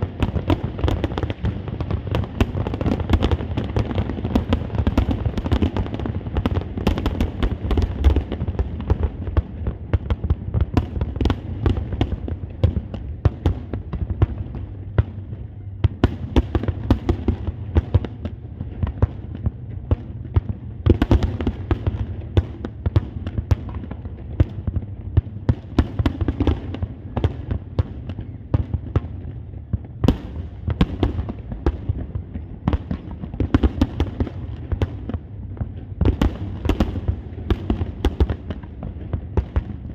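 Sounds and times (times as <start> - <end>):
deep rumble of fireworks booms: 0.0 - 39.9
fireworks bangs and crackles: 0.0 - 39.9.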